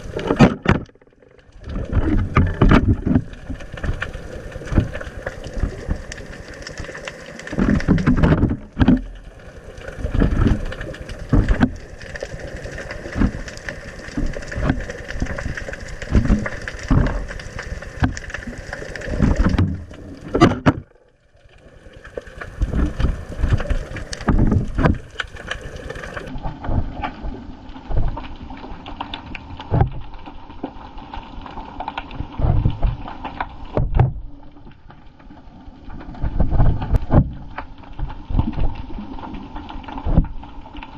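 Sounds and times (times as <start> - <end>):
sea water surging and sloshing: 0.0 - 40.9.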